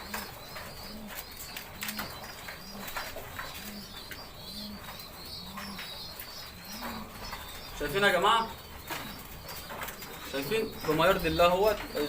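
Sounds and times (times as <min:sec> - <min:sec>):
faint high twittering: 0:00.0 - 0:12.0
pigeons cooing: 0:00.0 - 0:12.0.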